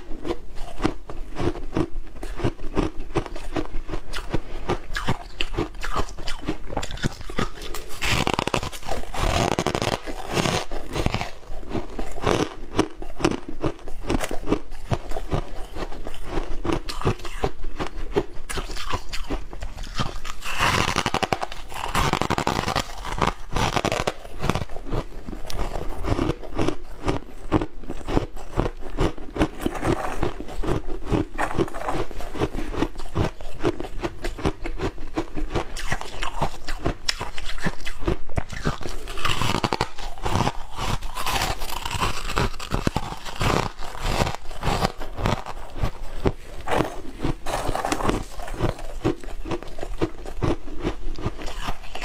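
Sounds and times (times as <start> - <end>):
ice being chewed crunching: 0.0 - 52.0.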